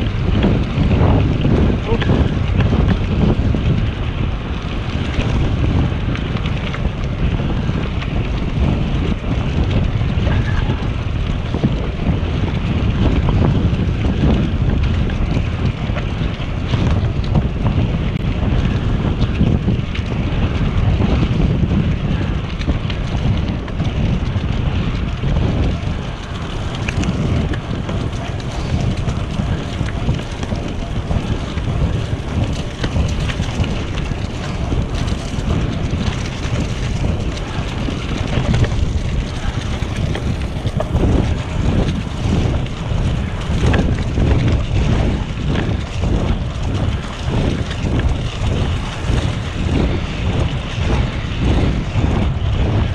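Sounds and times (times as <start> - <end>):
bicycle tyre noise on trail: 0.0 - 52.9
wind buffeting microphone: 0.0 - 52.9.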